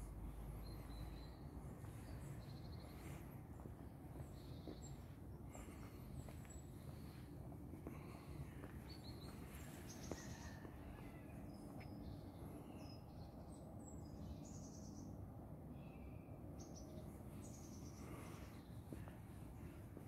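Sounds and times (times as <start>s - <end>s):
birds chirping: 0.0s - 20.0s
low background rumble: 0.0s - 20.0s.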